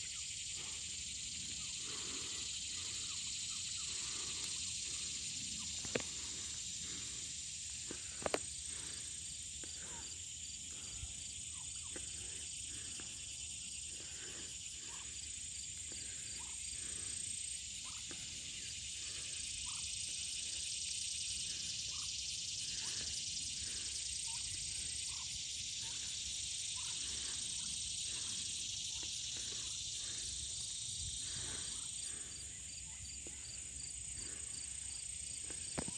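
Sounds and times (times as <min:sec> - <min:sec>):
high-pitched insect chorus: 0:00.0 - 0:35.9.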